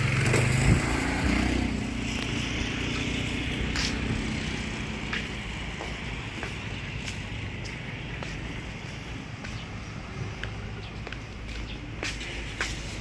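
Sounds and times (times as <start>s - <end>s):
vehicle engine low hum: 0.0s - 13.0s.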